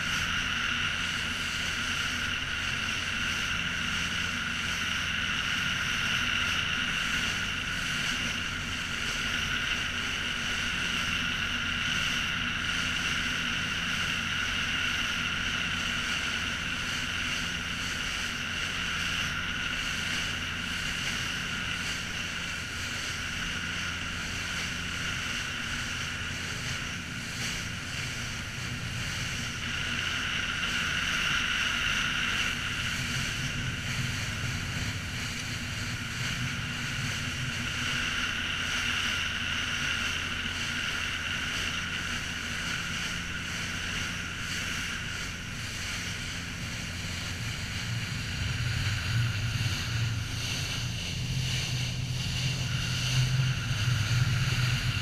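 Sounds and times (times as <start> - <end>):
boat motor humming: 0.0 - 55.0
motor whine: 0.0 - 55.0
wind: 0.0 - 55.0.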